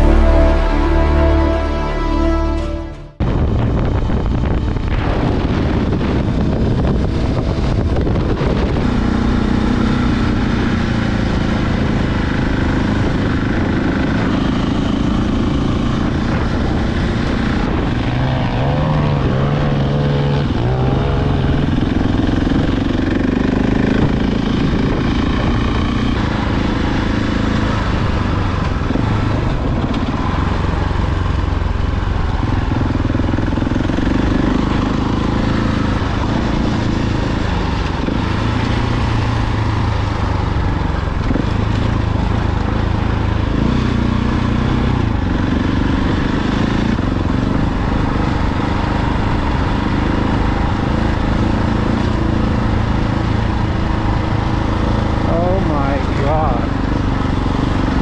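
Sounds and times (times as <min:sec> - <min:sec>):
motorcycle engine running: 0:03.2 - 0:58.0.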